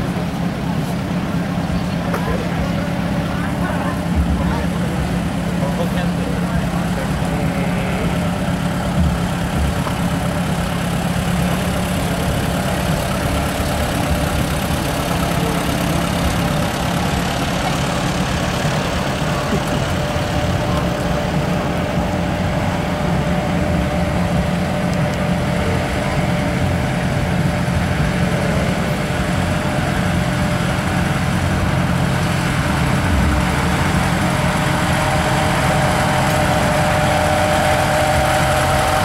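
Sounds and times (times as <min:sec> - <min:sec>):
tractor engines running: 0:00.0 - 0:39.0.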